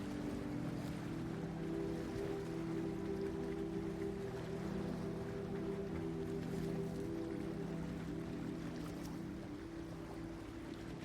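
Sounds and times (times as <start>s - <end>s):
ambient music with low tones: 0.0s - 11.0s
ocean waves: 0.0s - 11.0s.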